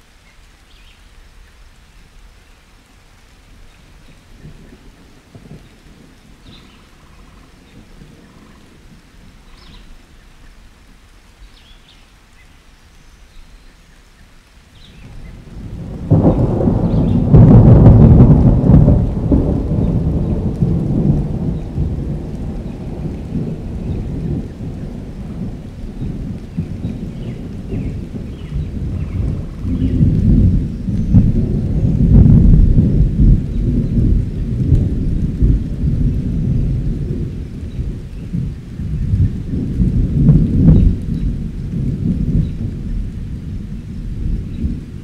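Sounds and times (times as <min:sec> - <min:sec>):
thunder rumbling: 0:03.5 - 0:10.0, 0:14.8 - 0:45.0.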